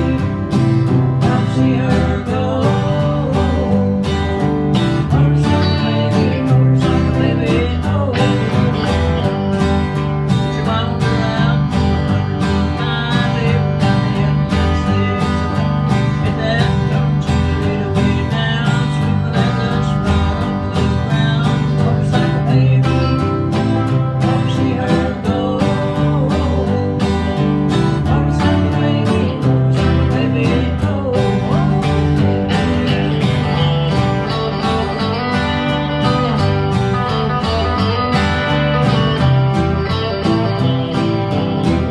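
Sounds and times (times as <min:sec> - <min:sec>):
live country band: 0:00.0 - 0:41.9
strummed acoustic guitars: 0:00.0 - 0:41.9.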